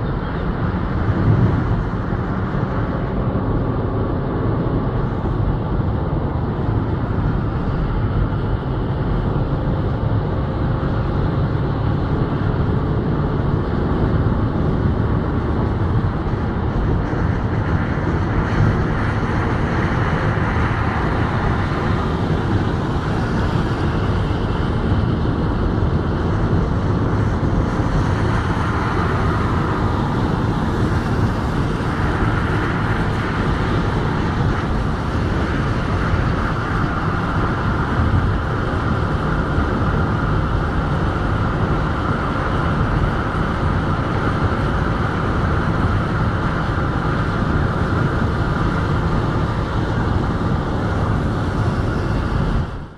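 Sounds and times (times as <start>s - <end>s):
car road noise from inside: 0.0s - 52.9s.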